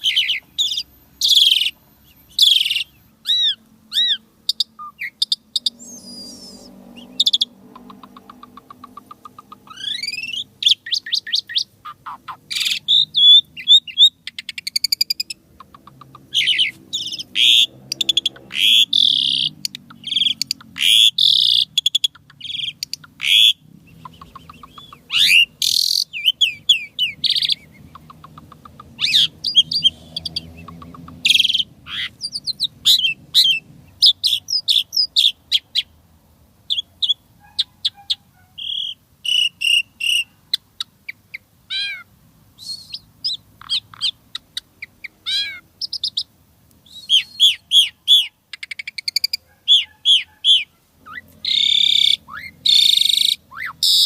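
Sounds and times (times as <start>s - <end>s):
starling singing: 0.0s - 35.9s, 36.7s - 54.0s.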